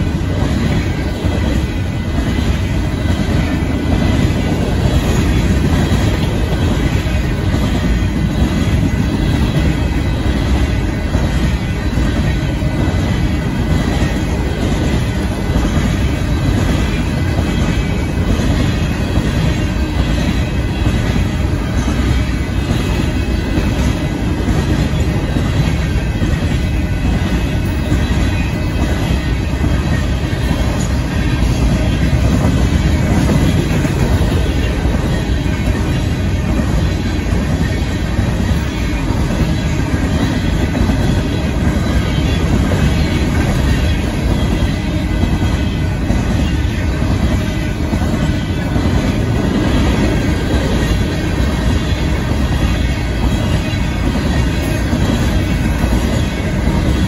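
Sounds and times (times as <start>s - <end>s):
train cars rumbling past: 0.0s - 57.0s
wheels clacking on rails: 0.0s - 57.0s.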